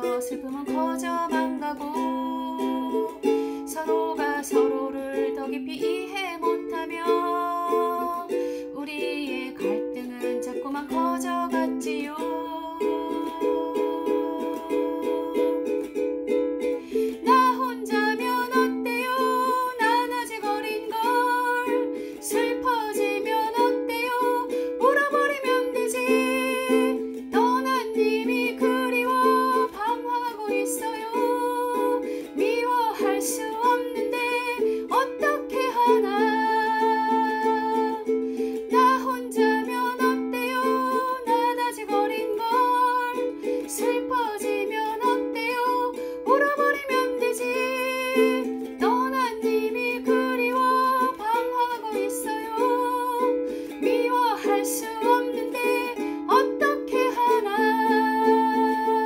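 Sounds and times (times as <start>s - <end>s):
ukulele strumming: 0.0s - 59.0s
woman singing a ballad: 0.0s - 59.0s.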